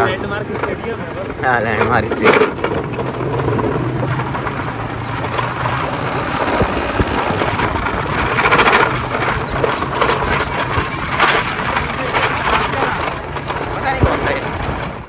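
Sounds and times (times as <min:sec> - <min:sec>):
concrete mixer engine clattering: 0:00.0 - 0:15.0.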